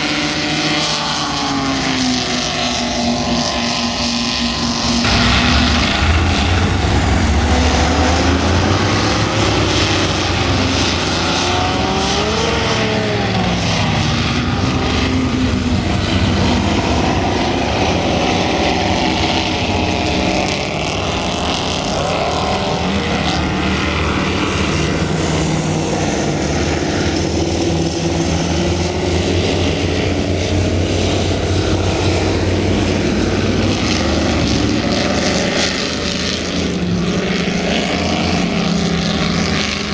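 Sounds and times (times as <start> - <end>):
powerboat engines droning: 0.0 - 39.9.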